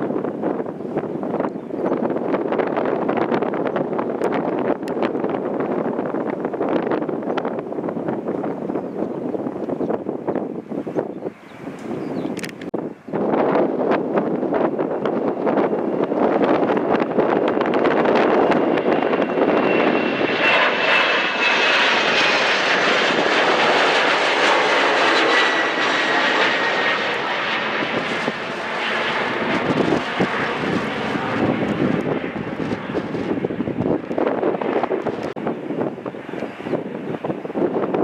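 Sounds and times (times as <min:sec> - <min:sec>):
jet airliner engines passing: 0:00.0 - 0:38.0.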